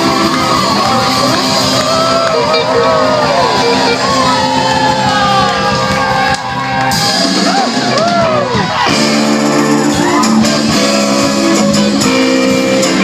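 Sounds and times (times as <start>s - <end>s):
crowd shouting and whooping: 0.0s - 13.0s
live rock band playing: 0.0s - 13.0s.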